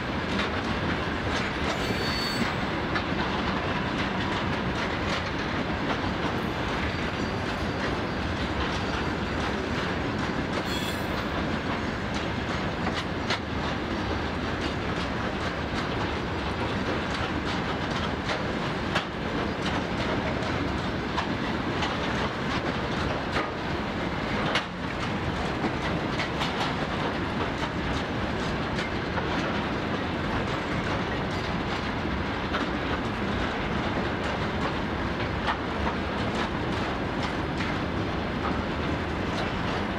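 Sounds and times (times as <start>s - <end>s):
clickety-clack over rail joints: 0.0s - 39.9s
train wheels on rails: 0.0s - 39.9s.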